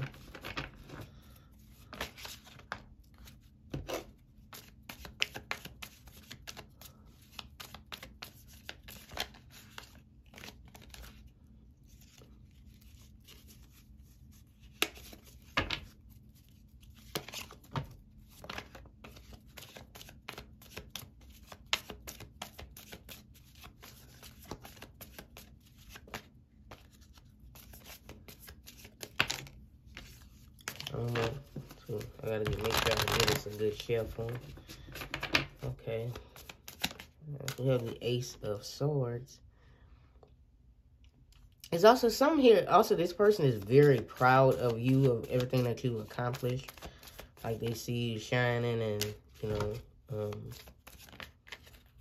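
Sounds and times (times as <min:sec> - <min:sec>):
cards being shuffled: 0:00.0 - 0:38.4, 0:42.8 - 0:52.0.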